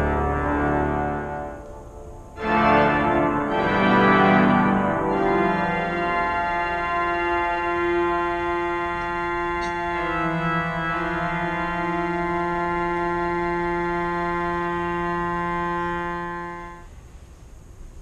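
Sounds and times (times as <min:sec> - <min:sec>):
pipe organ chord: 0:00.0 - 0:16.9.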